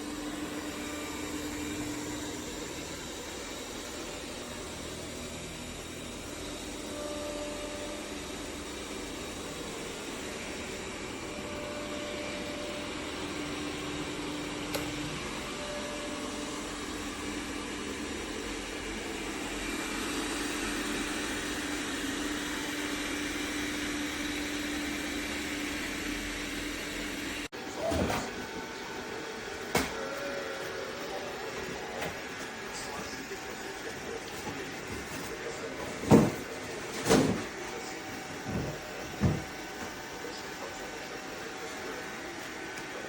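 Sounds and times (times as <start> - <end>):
robot vacuum base station whir: 0.0 - 43.0.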